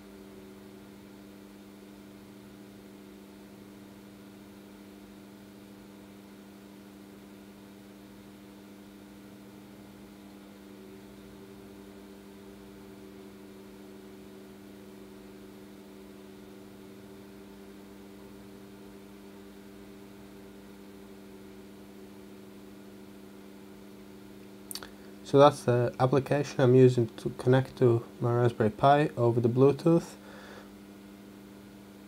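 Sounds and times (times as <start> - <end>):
low hum of held tones: 0.0 - 32.0.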